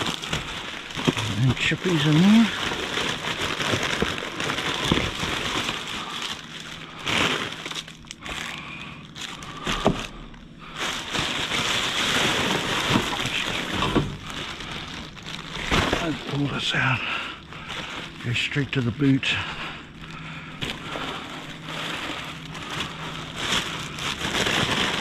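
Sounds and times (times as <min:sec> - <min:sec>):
plastic bags rustling: 0:00.0 - 0:25.0.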